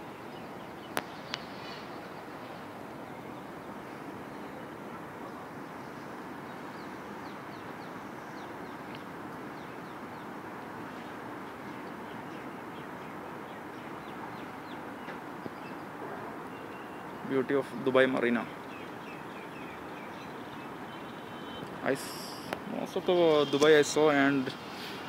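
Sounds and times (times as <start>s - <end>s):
outdoor background noise: 0.0s - 25.0s
small birds chirping: 0.0s - 25.0s.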